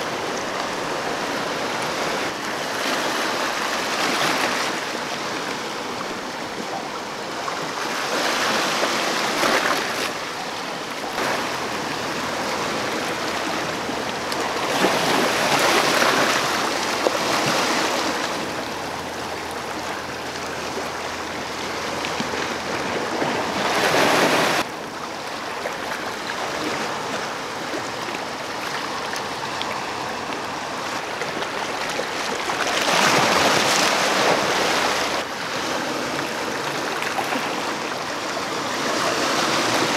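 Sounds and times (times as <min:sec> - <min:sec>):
waves washing over rocks: 0:00.0 - 0:39.9.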